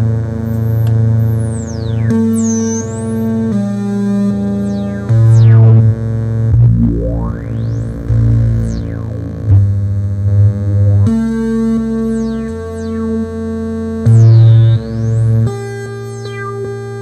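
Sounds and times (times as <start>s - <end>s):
high whistling synth sweeps: 0.5s - 9.6s, 11.8s - 16.8s
synthesizer bass line: 0.5s - 17.0s.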